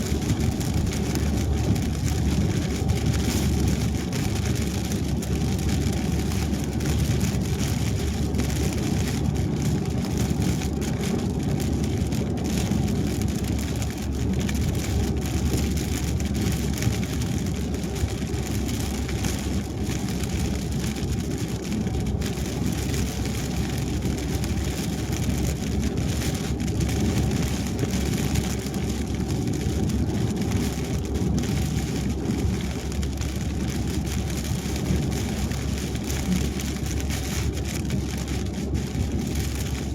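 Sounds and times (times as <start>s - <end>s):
rain: 0.0s - 39.9s
tyre noise on wet road: 0.0s - 39.9s.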